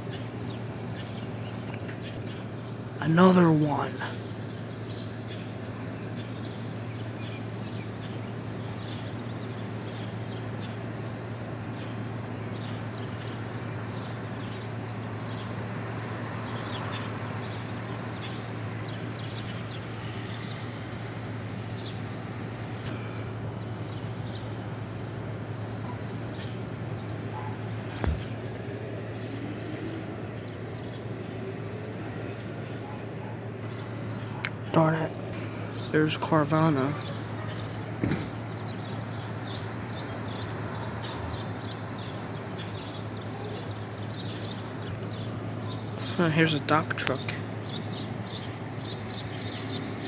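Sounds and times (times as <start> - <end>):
distant traffic hum: 0.0 - 50.0
small birds chirping: 0.0 - 50.0.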